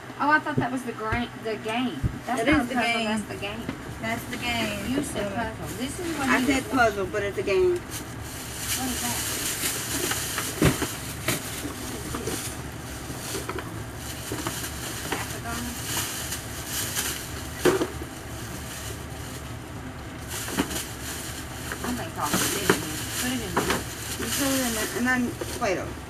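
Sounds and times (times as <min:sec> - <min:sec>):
shopping bags rustling: 0:04.0 - 0:25.9.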